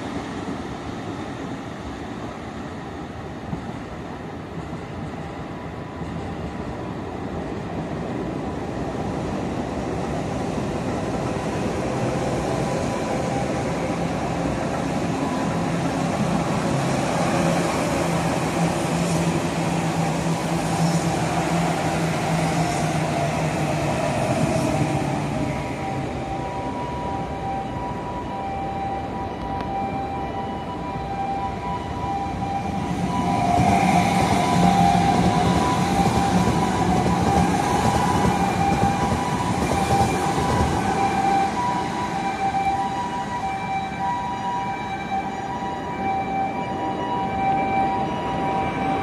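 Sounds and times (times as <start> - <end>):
electric train rumbling past: 0.0 - 49.0.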